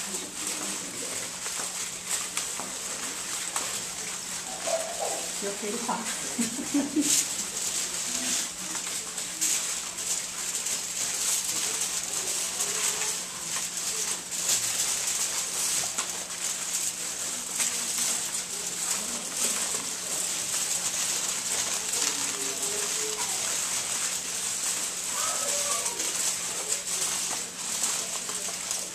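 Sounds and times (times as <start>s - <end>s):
foil crinkling: 0.0s - 28.9s.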